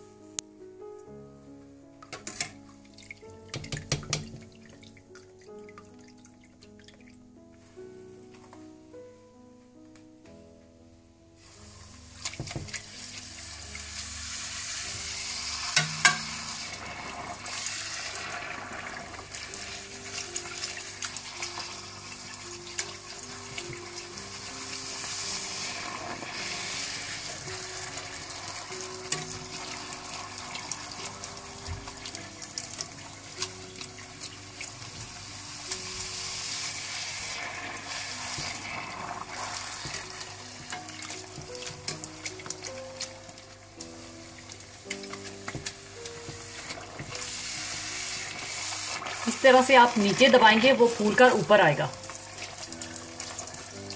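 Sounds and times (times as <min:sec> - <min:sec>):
quiet background music: 0:00.0 - 0:53.9
food deep-frying in hot oil: 0:02.2 - 0:06.8, 0:11.4 - 0:53.9.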